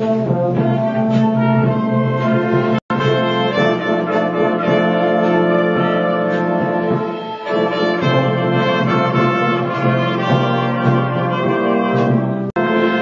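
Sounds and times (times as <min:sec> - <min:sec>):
school band playing brass chords: 0:00.0 - 0:13.0.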